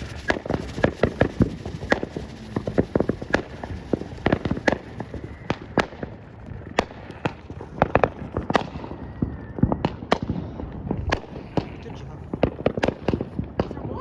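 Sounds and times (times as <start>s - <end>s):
fireworks cracking and popping: 0.0s - 14.0s.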